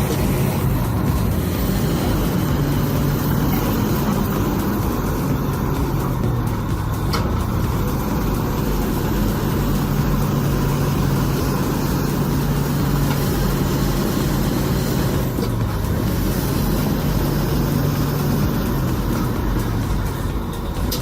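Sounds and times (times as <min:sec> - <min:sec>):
heavy vehicle engine humming: 0:00.0 - 0:21.0.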